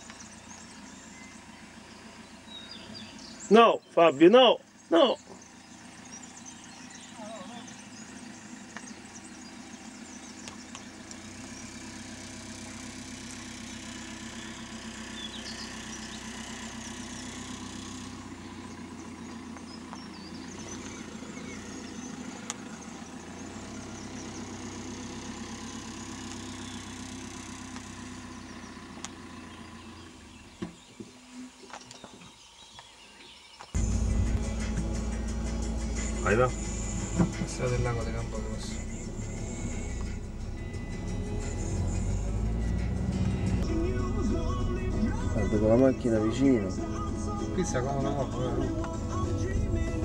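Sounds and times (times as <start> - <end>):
car engine running: 0.0 - 3.7, 4.6 - 31.0, 33.8 - 50.0
birds chirping: 0.0 - 50.0.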